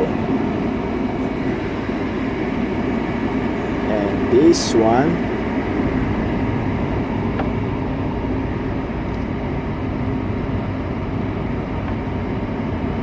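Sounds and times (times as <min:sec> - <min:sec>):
furnace fan running: 0:00.0 - 0:13.0
low hum: 0:00.0 - 0:13.0.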